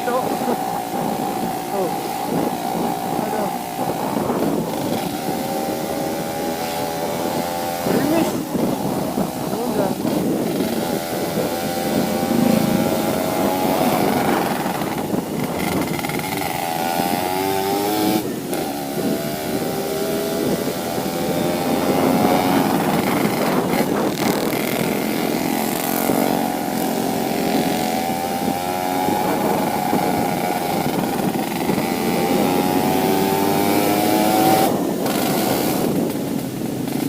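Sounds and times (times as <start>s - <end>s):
two-stroke motorcycle engine: 0.0s - 37.0s.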